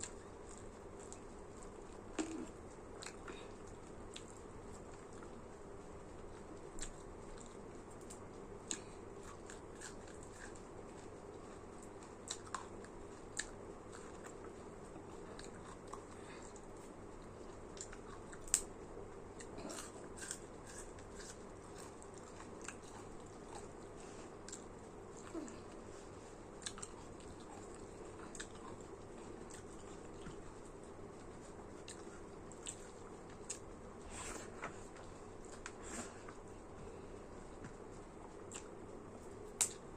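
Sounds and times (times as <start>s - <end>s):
chewing and eating: 0.0s - 39.9s
steady low hum: 0.0s - 39.9s.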